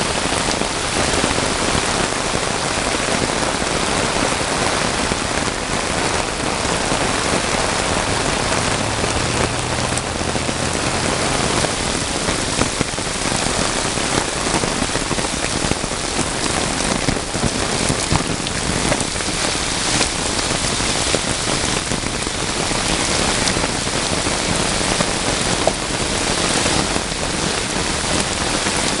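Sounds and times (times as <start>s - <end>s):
heavy rain splashing on hard surfaces: 0.0s - 29.0s.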